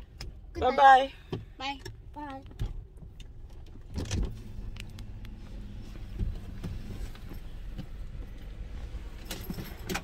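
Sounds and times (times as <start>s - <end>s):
car engine rumbling inside: 0.0s - 10.0s.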